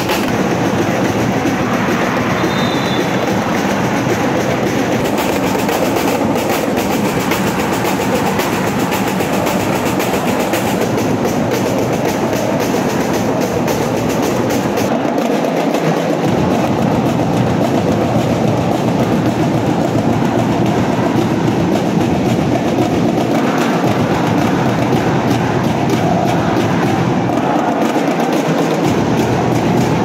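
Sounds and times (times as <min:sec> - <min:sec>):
crowd cheering: 0:00.0 - 0:30.0
scattered claps: 0:00.0 - 0:30.0.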